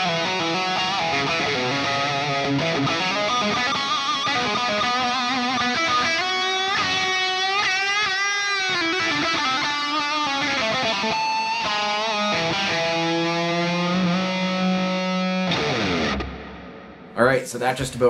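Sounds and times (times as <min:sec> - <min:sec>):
distorted electric guitar lead: 0:00.0 - 0:17.2.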